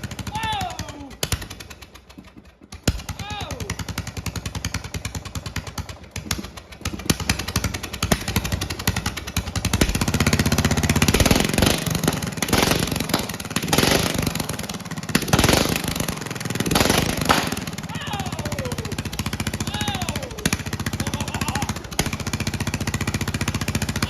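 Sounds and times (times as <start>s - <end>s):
mower engine running without muffler: 0.0s - 24.0s.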